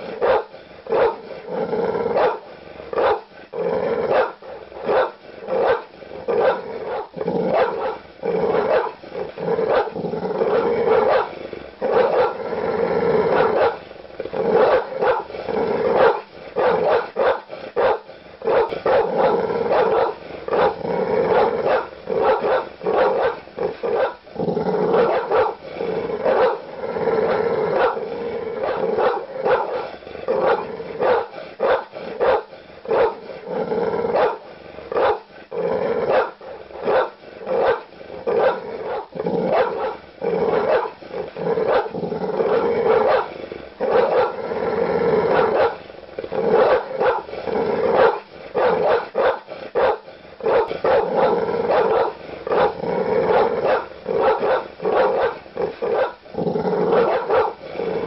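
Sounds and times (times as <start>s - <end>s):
large dog barking aggressively: 0.0s - 58.0s.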